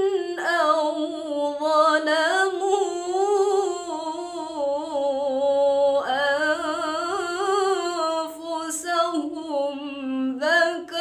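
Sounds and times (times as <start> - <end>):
woman reciting melodically: 0.0 - 11.0.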